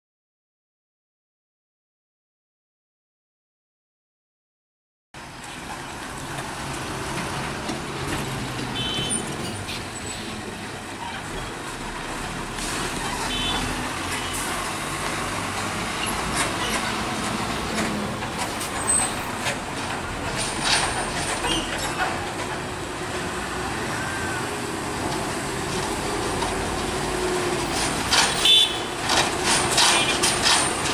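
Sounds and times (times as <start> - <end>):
diesel truck and bus driving: 5.2 - 30.9.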